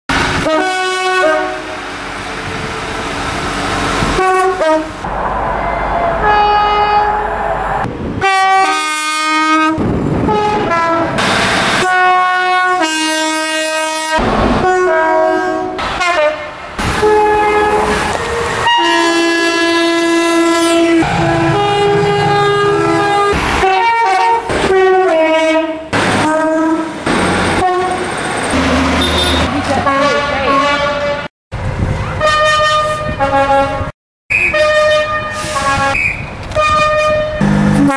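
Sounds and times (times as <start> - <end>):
two-tone train horns: 0.4 - 3.1, 4.0 - 27.0, 27.6 - 28.0, 28.6 - 31.3, 32.1 - 37.9.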